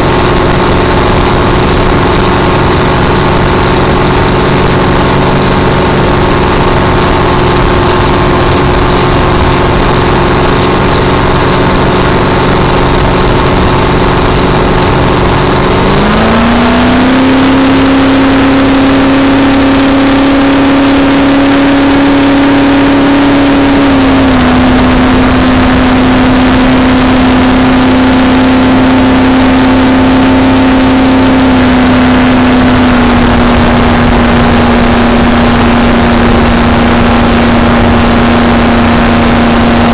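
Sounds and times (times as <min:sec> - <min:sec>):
race boat engine revving: 0:00.0 - 0:39.9
rush of wind and water: 0:00.0 - 0:39.9.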